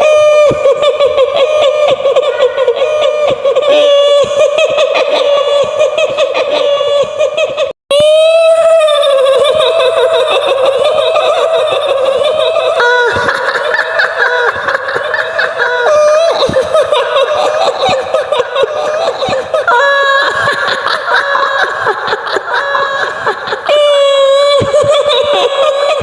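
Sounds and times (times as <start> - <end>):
woman cackling laughter: 0.3 - 7.7, 9.1 - 26.0.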